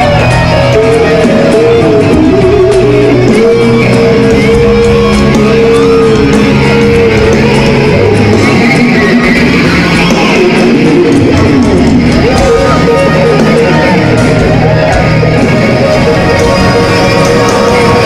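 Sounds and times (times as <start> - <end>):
electric guitar melody: 0.0 - 18.0
live rock band: 0.0 - 18.0.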